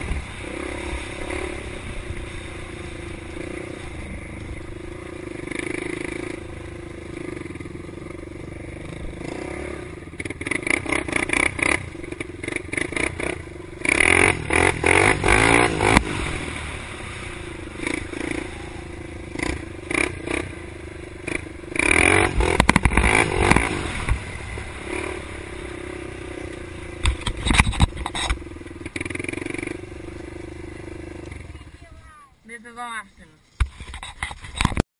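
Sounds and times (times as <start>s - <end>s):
motorcycle engine revving: 0.0s - 32.1s.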